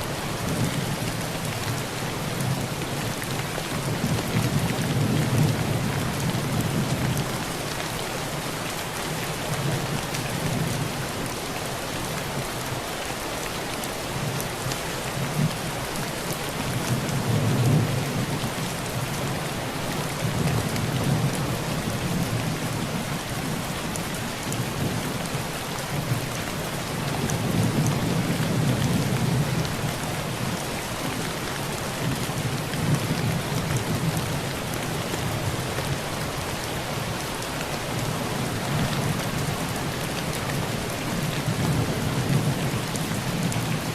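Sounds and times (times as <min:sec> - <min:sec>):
heavy rain on a tin roof: 0:00.0 - 0:43.9.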